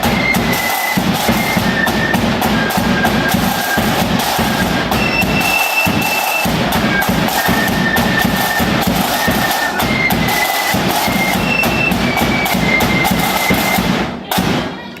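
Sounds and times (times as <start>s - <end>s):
flutes playing melody: 0.0s - 13.9s
bass drum and snare beats: 0.0s - 14.9s.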